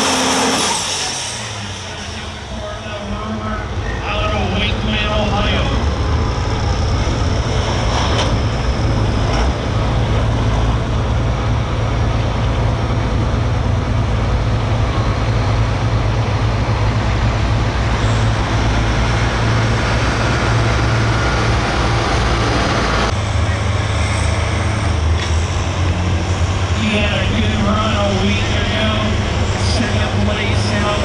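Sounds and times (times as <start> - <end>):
diesel engine at full throttle: 0.0 - 31.0.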